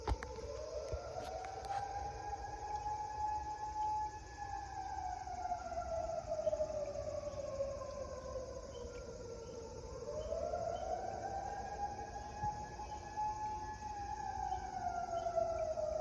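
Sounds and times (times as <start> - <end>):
fire siren wailing: 0.0 - 8.4, 9.9 - 16.0.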